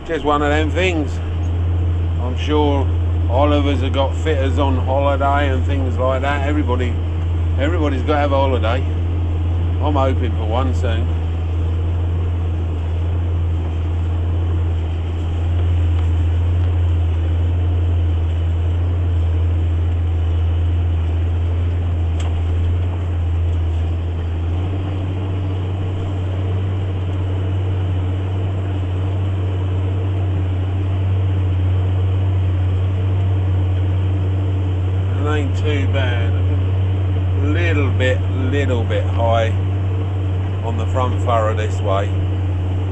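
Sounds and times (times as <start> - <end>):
steady higher hum: 0.0 - 42.9
tractor engine drone: 0.0 - 42.9.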